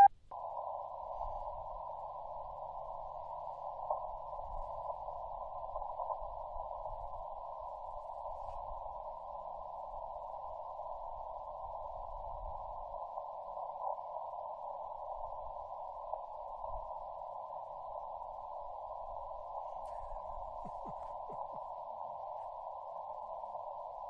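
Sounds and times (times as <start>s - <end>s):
radio receiver static hiss: 0.0s - 24.0s.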